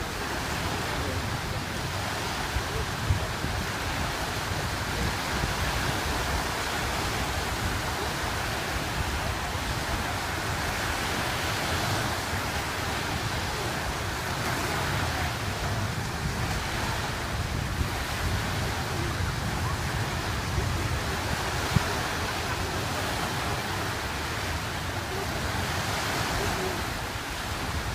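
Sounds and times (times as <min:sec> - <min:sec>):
waves rushing: 0:00.0 - 0:27.9
wind buffeting microphone: 0:00.0 - 0:27.9.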